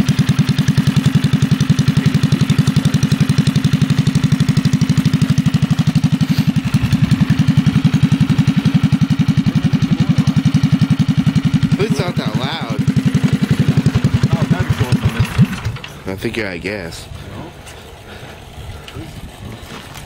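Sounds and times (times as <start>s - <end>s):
small engine idling: 0.0s - 20.0s.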